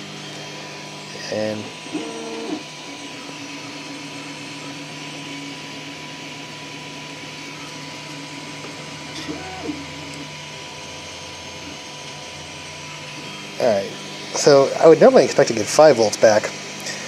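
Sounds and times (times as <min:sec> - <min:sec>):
electrical machine hum: 0:00.0 - 0:17.0.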